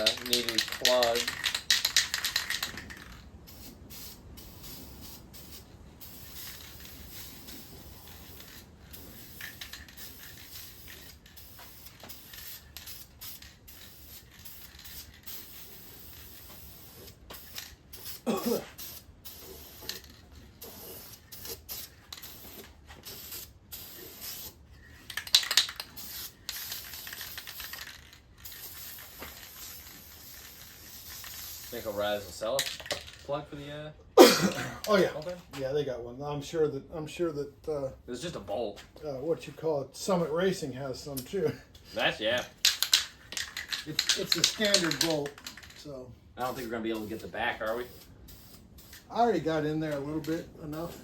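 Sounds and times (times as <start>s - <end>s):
spray paint can hissing: 0.0s - 33.2s, 42.2s - 51.0s.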